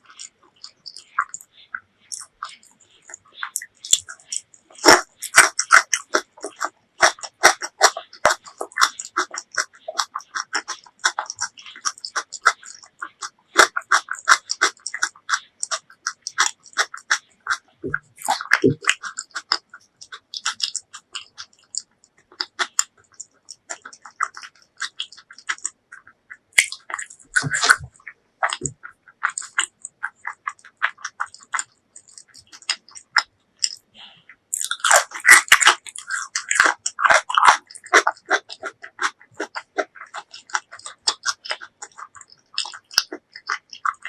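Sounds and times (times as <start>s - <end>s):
wet chewing mouth smacks: 0.0s - 33.9s, 34.5s - 44.0s.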